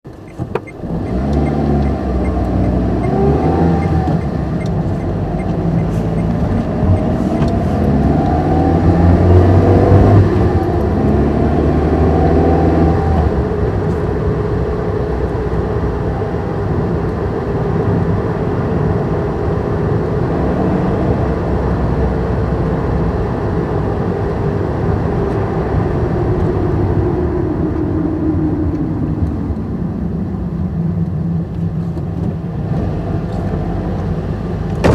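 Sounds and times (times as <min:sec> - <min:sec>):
road noise: 0:00.0 - 0:34.9
car engine accelerating: 0:00.1 - 0:34.9.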